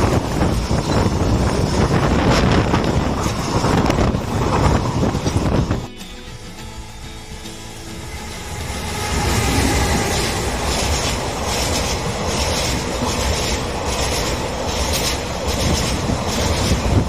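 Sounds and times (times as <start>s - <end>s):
freight train passing: 0.0s - 17.0s
train wheels clacking: 0.0s - 17.0s.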